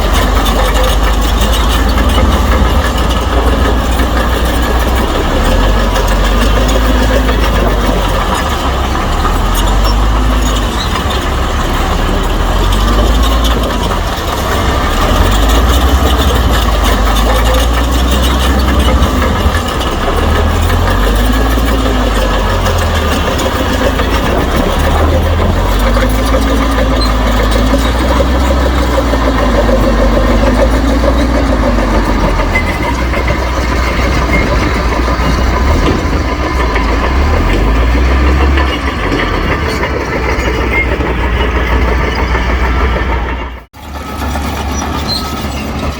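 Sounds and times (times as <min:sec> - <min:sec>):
bulldozer diesel engine rumbling: 0:00.0 - 0:45.9.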